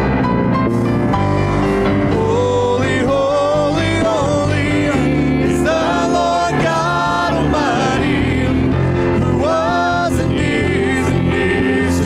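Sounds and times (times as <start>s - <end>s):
keyboard: 0.0s - 12.0s
singers holding long notes: 2.0s - 12.0s.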